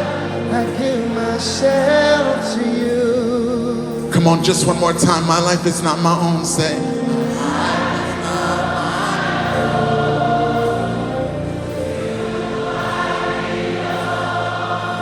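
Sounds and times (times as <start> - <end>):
band accompaniment with held chords: 0.0 - 15.0
congregation singing: 0.0 - 15.0.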